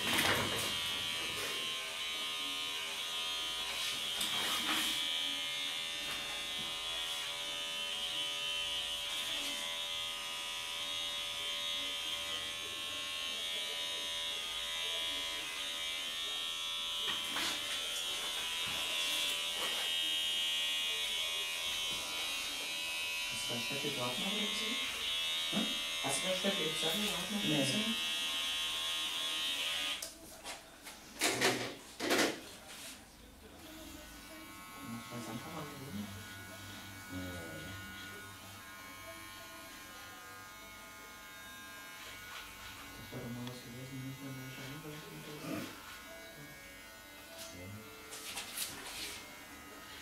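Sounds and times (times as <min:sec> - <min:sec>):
electric hair clipper buzzing: 0:00.0 - 0:30.1, 0:34.1 - 0:50.0.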